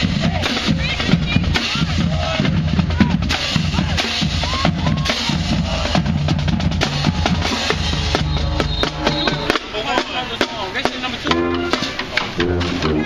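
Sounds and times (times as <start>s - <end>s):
music with drum kit beat: 0.0s - 13.0s.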